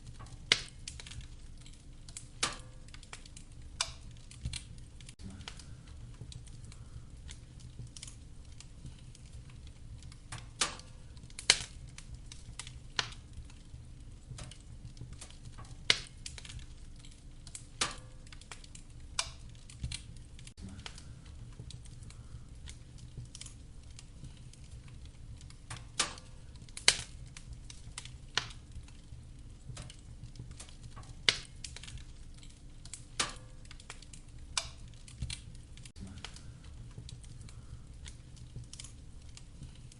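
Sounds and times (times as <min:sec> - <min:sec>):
burning logs popping: 0:00.0 - 0:39.9
wood fire crackling: 0:00.0 - 0:39.9.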